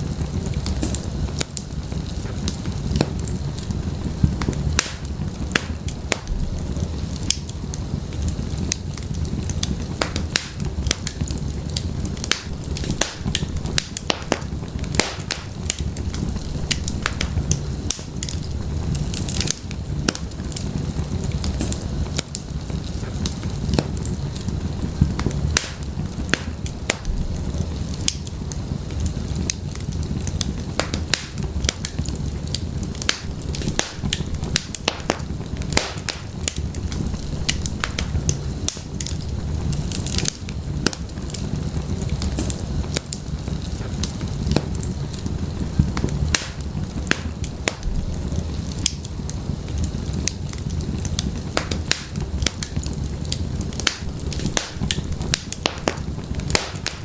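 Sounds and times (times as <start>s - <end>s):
fire flames rumbling: 0.0s - 57.0s
firewood crackling and popping: 0.0s - 57.0s.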